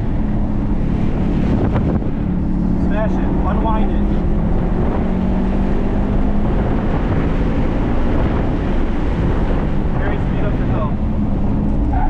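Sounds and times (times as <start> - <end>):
car engine running hard: 0.0 - 12.0
wind rush on microphone: 0.0 - 12.0.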